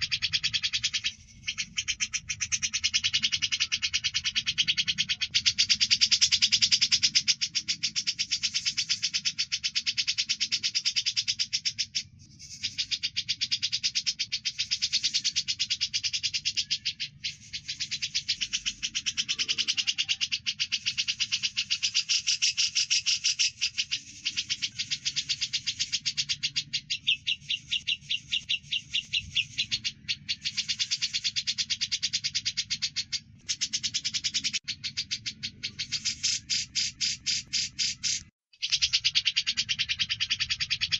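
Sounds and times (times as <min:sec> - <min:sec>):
bulbul chattering: 0:00.0 - 0:40.9
sparrow chirps: 0:00.0 - 0:40.9.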